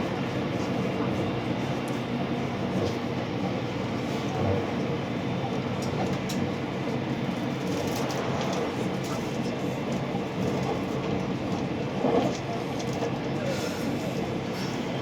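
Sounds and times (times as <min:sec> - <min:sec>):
train cabin running noise: 0:00.0 - 0:15.0.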